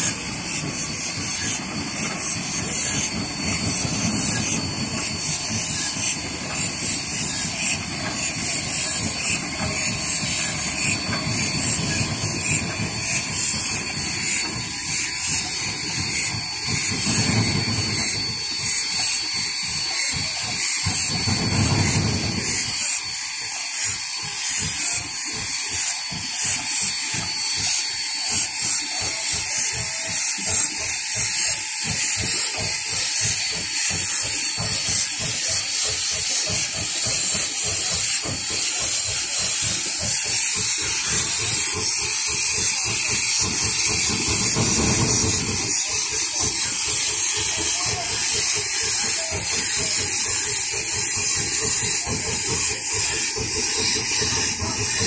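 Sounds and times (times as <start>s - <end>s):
steam hissing rhythmically: 0.0s - 55.0s.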